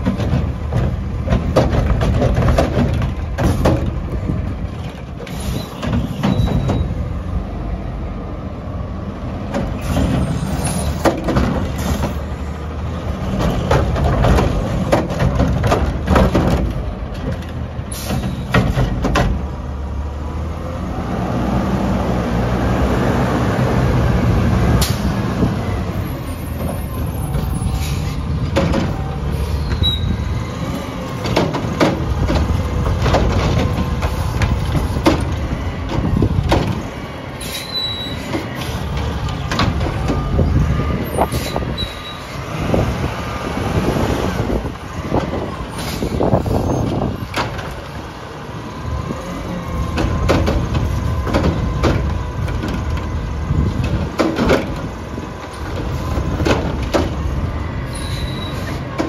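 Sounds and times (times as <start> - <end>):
diesel engine running: 7.0 - 59.0.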